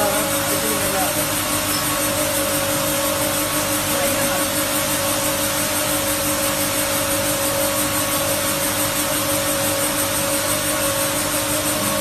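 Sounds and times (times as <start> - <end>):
mixer machine humming: 0.0 - 12.0.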